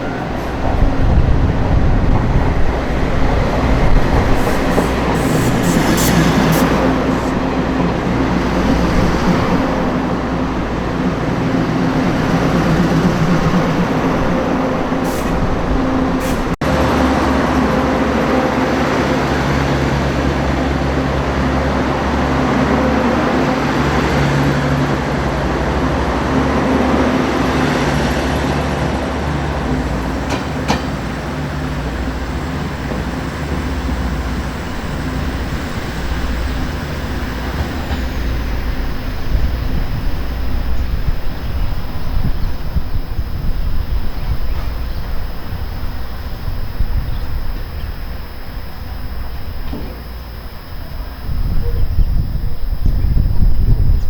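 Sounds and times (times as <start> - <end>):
wheel and rail rumble: 0.0 - 23.2, 27.9 - 54.0
diesel engine drone: 0.0 - 54.0.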